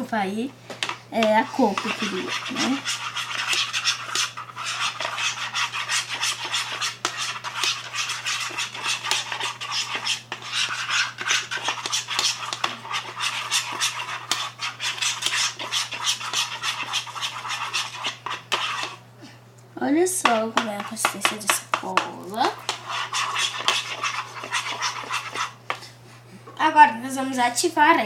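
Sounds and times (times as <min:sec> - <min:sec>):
steady low hum: 0:00.0 - 0:28.0
spoon scraping a bowl: 0:00.8 - 0:19.0, 0:20.2 - 0:25.8.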